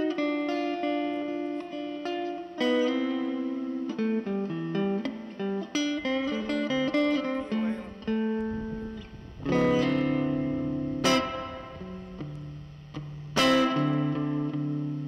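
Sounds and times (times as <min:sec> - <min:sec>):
guitar chord ringing out: 0:00.0 - 0:15.0
picked guitar melody: 0:00.0 - 0:15.0.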